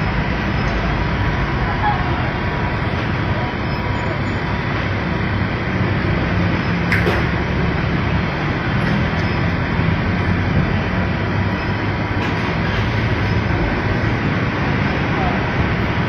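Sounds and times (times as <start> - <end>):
roadside traffic hum: 0.0 - 16.0.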